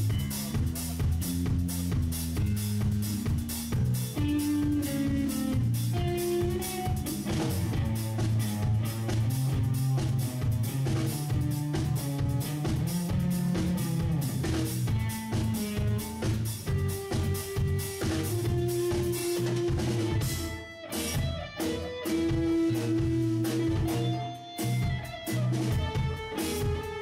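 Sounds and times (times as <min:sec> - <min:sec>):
bass guitar line: 0:00.0 - 0:27.0
driving drum kit: 0:00.0 - 0:27.0
electric guitar melody: 0:00.0 - 0:27.0.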